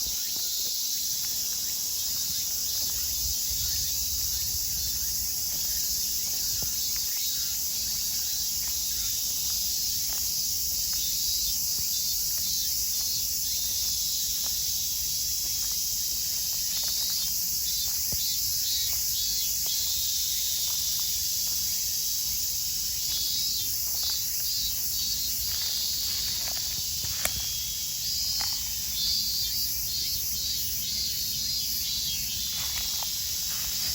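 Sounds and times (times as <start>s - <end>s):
cicadas singing: 0.0s - 33.9s.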